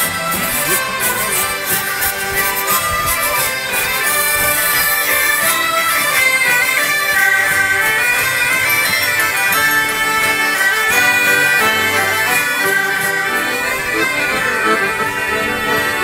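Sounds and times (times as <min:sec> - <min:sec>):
folk ensemble playing: 0:00.0 - 0:16.0.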